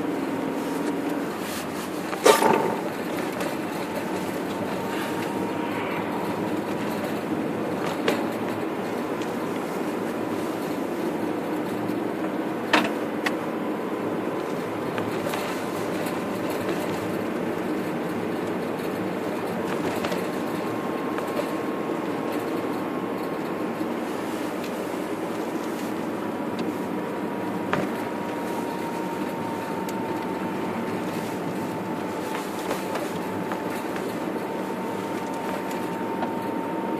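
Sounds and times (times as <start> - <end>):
car road and engine noise: 0.0 - 36.9
faint steady whine: 0.0 - 36.9.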